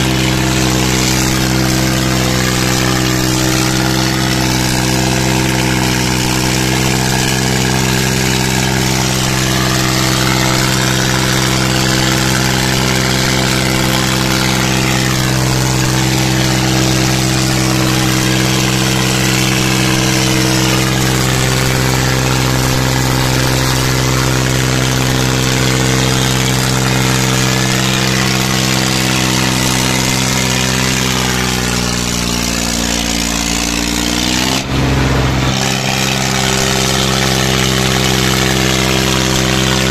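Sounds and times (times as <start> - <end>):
tractor engines droning at full throttle: 0.0 - 39.9.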